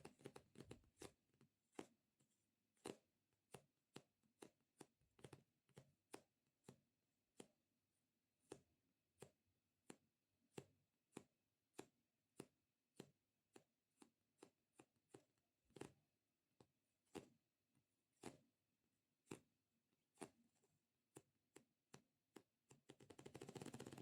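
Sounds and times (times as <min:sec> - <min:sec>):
fingertips tapping squishy toy: 0:00.0 - 0:07.6, 0:08.4 - 0:16.0, 0:16.6 - 0:17.4, 0:18.2 - 0:18.5, 0:19.2 - 0:19.5, 0:20.1 - 0:24.0.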